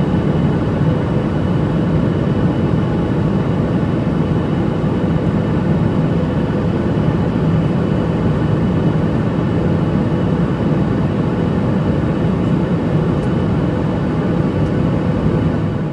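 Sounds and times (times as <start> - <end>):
airplane cabin engine rush: 0.0 - 15.9.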